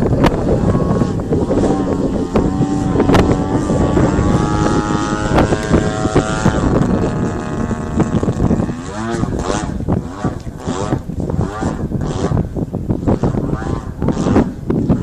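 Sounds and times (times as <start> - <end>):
plane engine drone: 0.0 - 15.0
wind buffeting microphone: 0.0 - 15.0.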